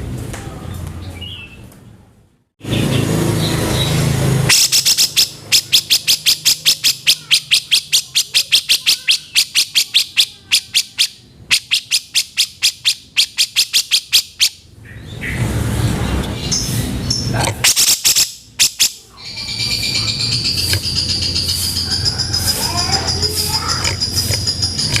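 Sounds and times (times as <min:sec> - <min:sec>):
bird harsh chattering calls: 0:02.6 - 0:15.5, 0:16.2 - 0:25.0.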